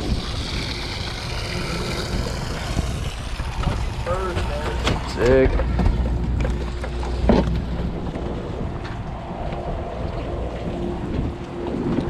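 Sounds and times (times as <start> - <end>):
boat engine humming: 0.0 - 12.0
wind buffeting microphone: 0.0 - 12.0.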